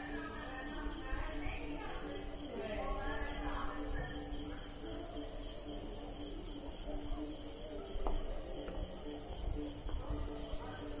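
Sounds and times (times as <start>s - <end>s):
high-pitched insect chirping: 0.0s - 11.0s.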